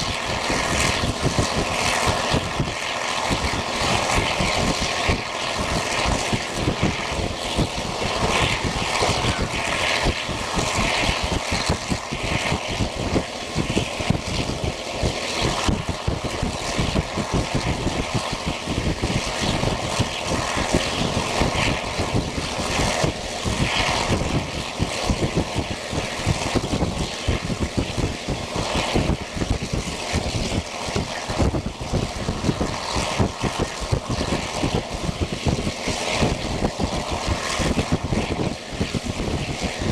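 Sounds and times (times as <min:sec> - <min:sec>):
wind buffeting through train window: 0:00.0 - 0:39.9.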